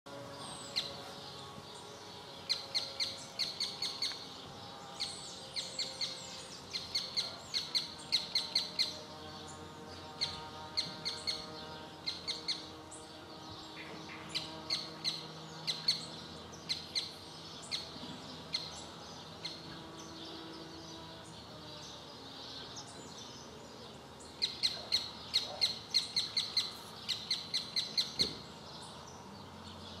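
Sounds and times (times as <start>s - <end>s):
bird chirping: 0.1s - 30.0s.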